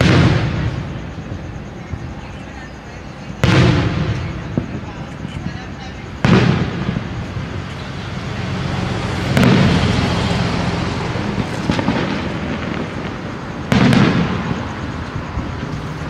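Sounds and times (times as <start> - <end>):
firework booms: 0.0 - 16.0
firework rumble and crackle: 0.0 - 16.0.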